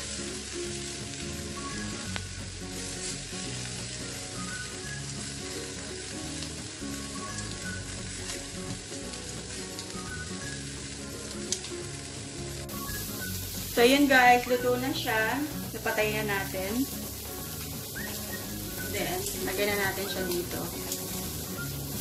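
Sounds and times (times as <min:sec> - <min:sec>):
shrimp sizzling on hot plate: 0:00.0 - 0:22.0.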